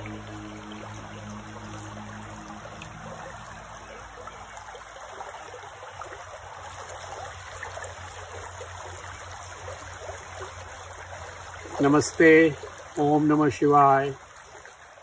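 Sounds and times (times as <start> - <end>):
creek flowing over stones: 0.0 - 15.0.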